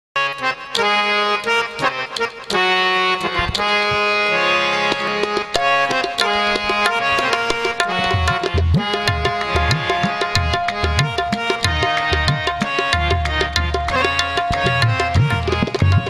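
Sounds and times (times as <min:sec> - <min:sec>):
harmonium chords: 0:00.2 - 0:16.0.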